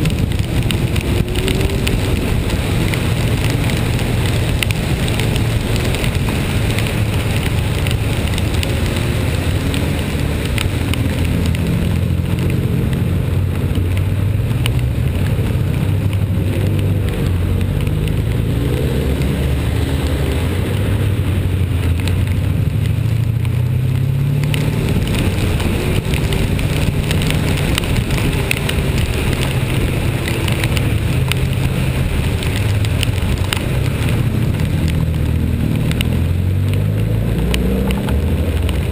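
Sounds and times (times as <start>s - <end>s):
rain and wet road noise: 0.0s - 38.9s.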